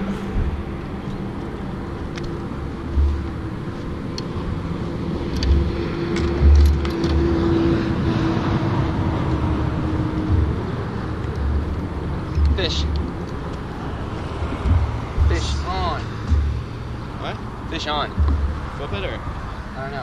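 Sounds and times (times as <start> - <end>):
low thumps: 0.0 - 1.5, 2.7 - 19.8
road traffic: 0.0 - 20.0.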